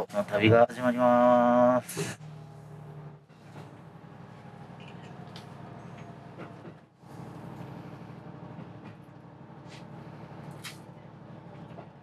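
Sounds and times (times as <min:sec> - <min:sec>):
train engine humming: 0:00.0 - 0:12.0.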